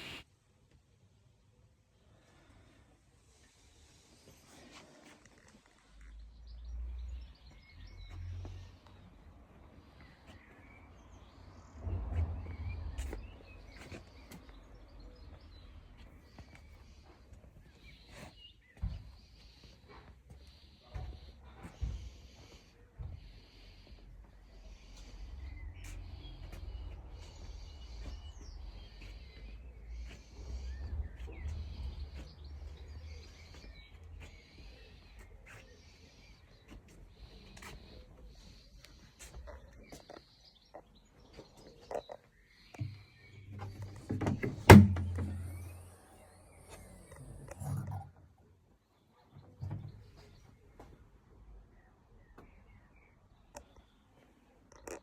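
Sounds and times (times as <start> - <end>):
small birds chirping: 2.1 - 55.0.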